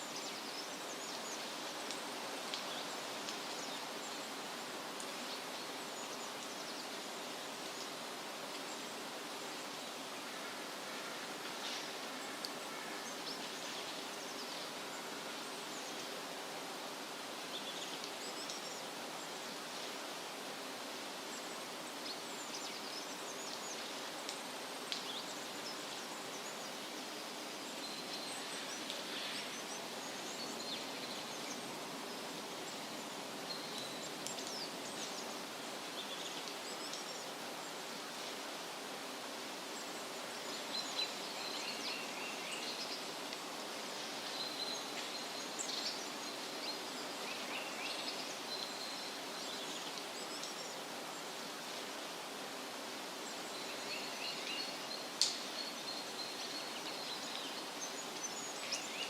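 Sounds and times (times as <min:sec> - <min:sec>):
wind rustling leafy trees: 0:00.0 - 0:59.0.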